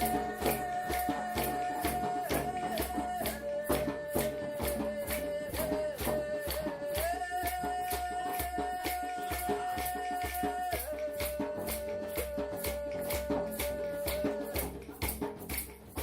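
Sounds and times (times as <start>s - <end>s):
shaker beat: 0.0s - 16.0s.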